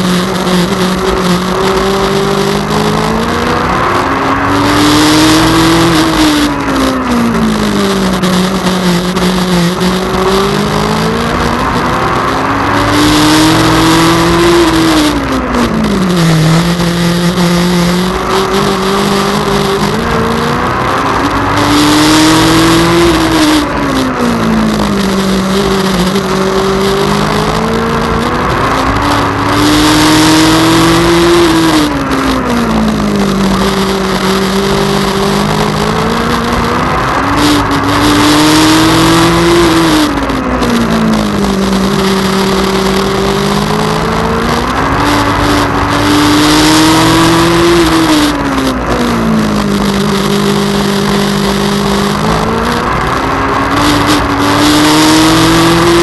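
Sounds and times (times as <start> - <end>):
motorcycle engine at racing speed: 0.0 - 56.0.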